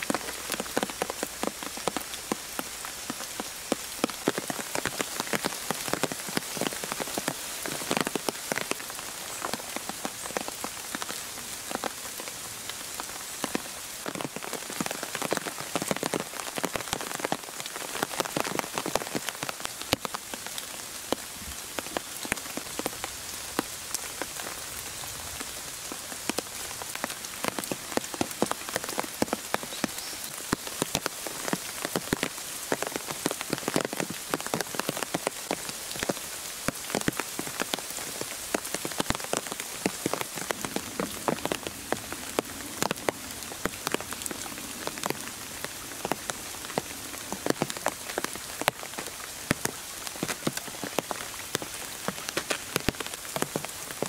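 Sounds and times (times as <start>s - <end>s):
rain hiss in forest: 0.0s - 54.0s
raindrops hitting leaves: 0.0s - 54.0s.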